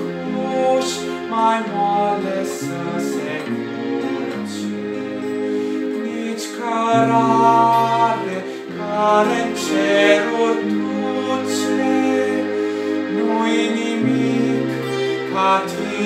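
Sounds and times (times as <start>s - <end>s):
acoustic guitar: 0.0s - 16.0s
keyboard: 0.0s - 16.0s
man singing: 0.0s - 16.0s
violin: 0.0s - 16.0s.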